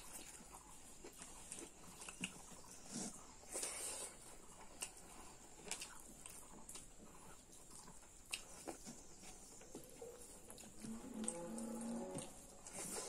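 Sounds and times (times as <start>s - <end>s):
quiet chewing with lip smacks: 0.0s - 13.0s.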